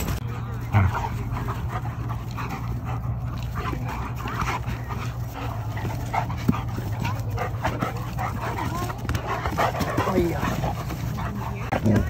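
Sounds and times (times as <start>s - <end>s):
dogs playing and vocalizing: 0.0s - 12.0s.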